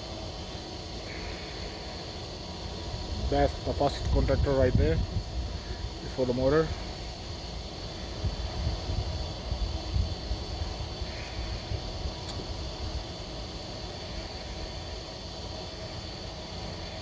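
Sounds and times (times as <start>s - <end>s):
gas heating unit humming: 0.0s - 17.0s.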